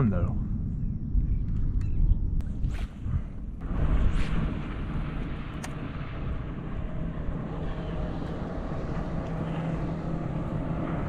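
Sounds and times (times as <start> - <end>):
distant engine hum: 0.0 - 11.0
wind rumbling on microphone: 0.0 - 11.0.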